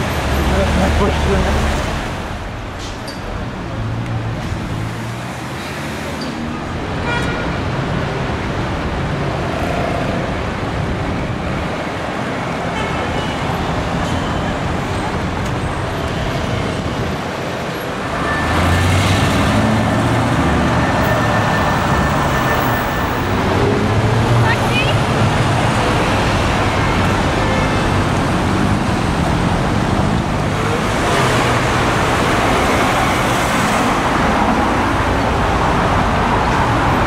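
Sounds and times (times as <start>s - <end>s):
cars driving past: 0.0s - 37.0s.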